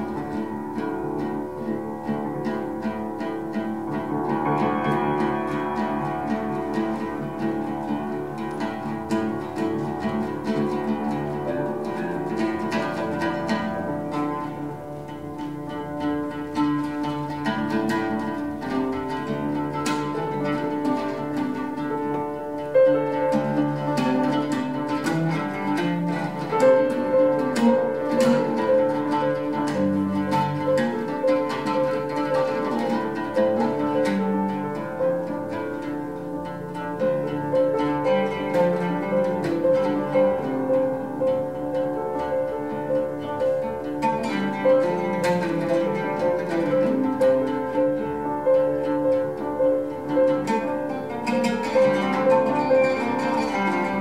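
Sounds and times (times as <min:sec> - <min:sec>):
oud plucking: 0:00.0 - 0:54.0
sustained piano notes: 0:00.0 - 0:54.0.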